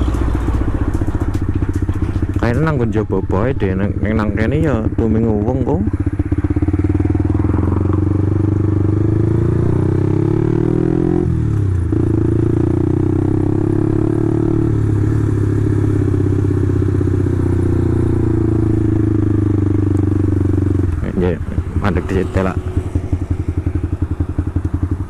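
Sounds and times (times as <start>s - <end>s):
loud motorcycle engine: 0.0s - 25.0s.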